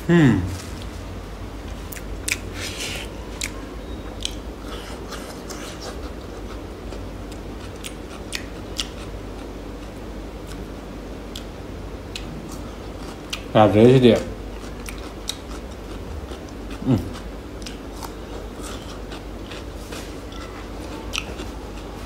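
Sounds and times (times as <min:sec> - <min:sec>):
steady low hum: 0:00.0 - 0:22.0
person chewing food: 0:01.7 - 0:10.7, 0:11.3 - 0:11.5, 0:12.1 - 0:13.5, 0:14.4 - 0:22.0.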